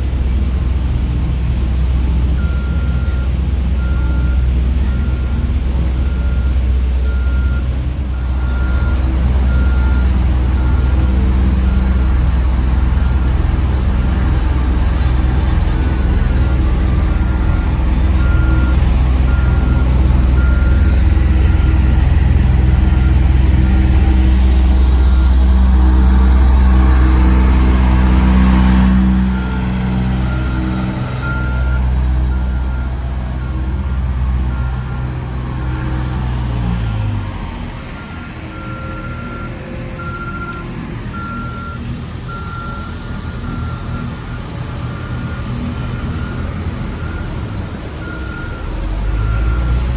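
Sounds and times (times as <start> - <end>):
diesel vehicle rumbling: 0.0 - 49.9
heavy engine droning: 0.0 - 49.9
reversing alarm beeps: 2.4 - 12.2, 15.0 - 36.6, 38.0 - 49.9.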